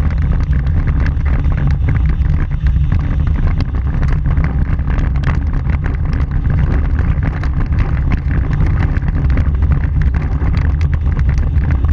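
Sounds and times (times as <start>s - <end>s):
tyres rumbling on gravel: 0.0s - 11.9s
wind buffeting microphone: 0.0s - 11.9s.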